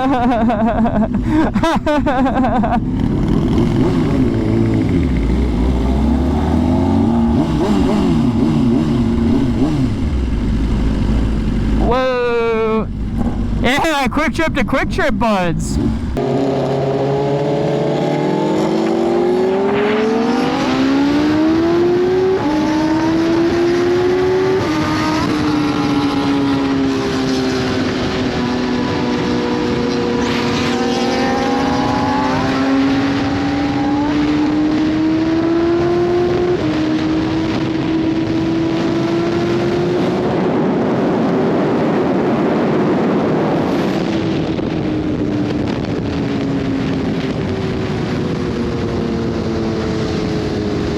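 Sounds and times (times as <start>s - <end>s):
motorcycle engine accelerating: 0.0s - 50.9s
wind rushing over microphone: 0.0s - 50.9s.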